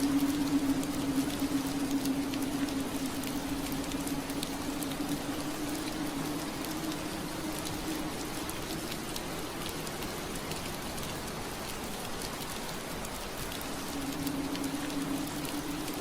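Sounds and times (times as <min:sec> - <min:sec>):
low steady hum: 0:00.0 - 0:12.0, 0:13.4 - 0:16.0
rain pattering on window glass: 0:00.0 - 0:16.0.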